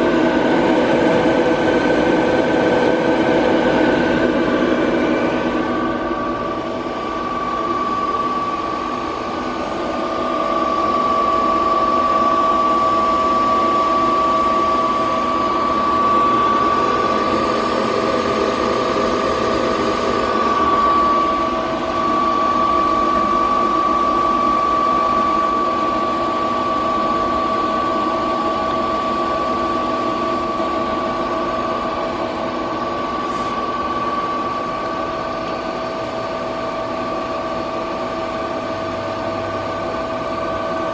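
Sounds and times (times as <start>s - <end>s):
lathe running with high whine: 0.0s - 40.9s.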